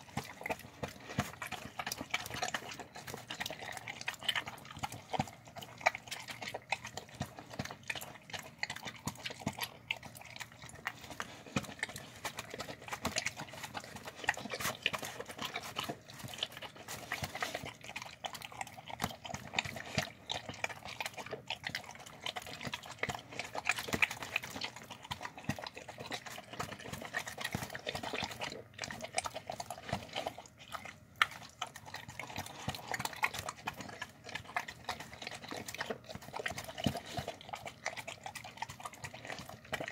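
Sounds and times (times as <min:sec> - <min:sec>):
dog chewing and licking: 0:00.0 - 0:39.9.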